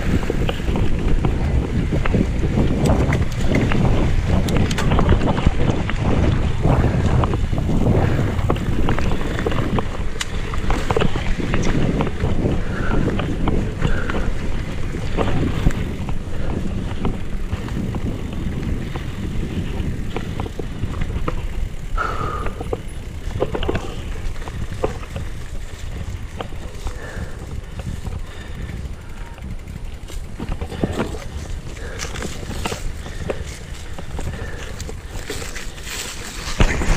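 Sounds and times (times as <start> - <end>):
bike rattling and clicking: 0.0 - 36.9
tyre noise on dirt: 0.0 - 36.9
wind rush on microphone: 0.0 - 36.9.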